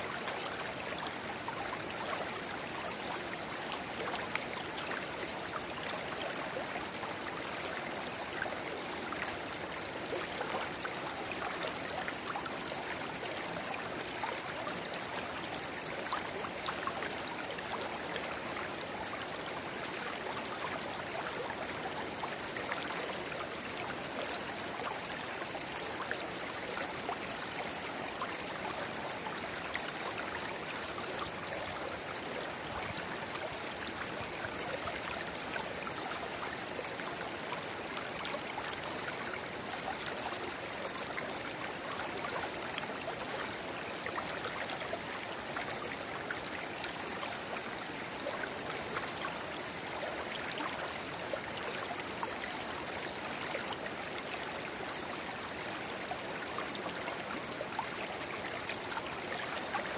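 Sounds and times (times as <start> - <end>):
shallow river babbling: 0.1 - 59.9.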